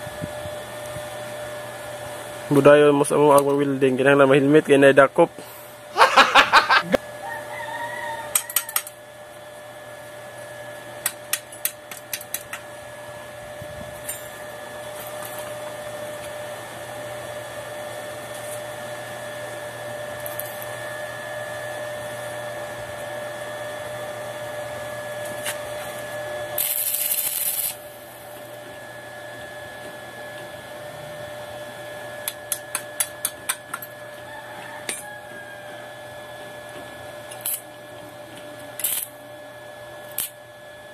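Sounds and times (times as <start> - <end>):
two-note electrical whine: 8.1 - 40.9.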